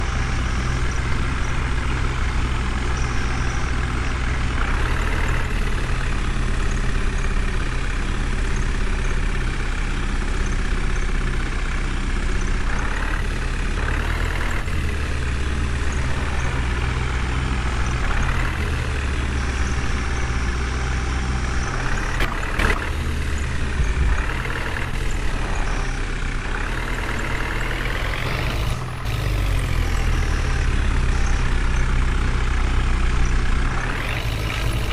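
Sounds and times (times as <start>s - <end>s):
diesel machinery engine hum: 0.0s - 34.9s.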